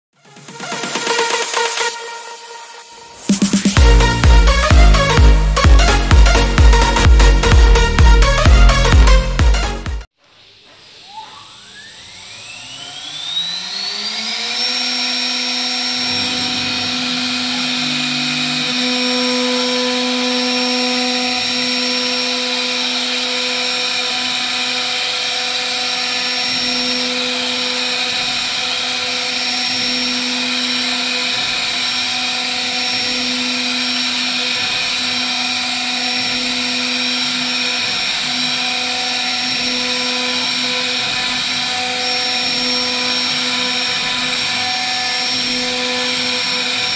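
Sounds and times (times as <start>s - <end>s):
bit routing wood: 0.2s - 46.9s
router spindle whining: 0.2s - 46.9s.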